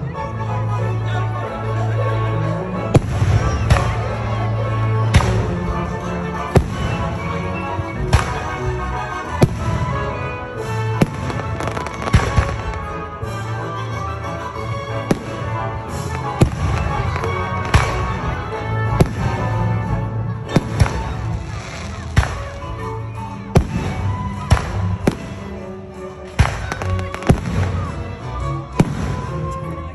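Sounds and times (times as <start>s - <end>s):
music playing: 0.0s - 29.9s.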